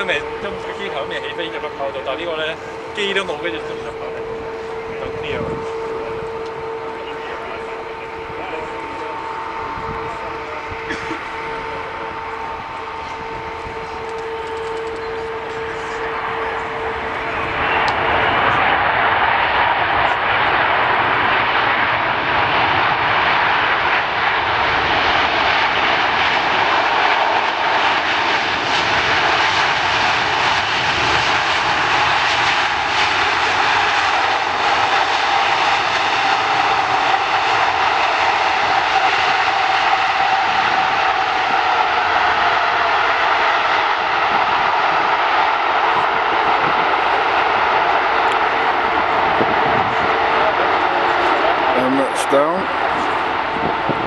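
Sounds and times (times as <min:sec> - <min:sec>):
faint engine whine: 0:00.0 - 0:54.0
jet engine rush: 0:00.0 - 0:54.0.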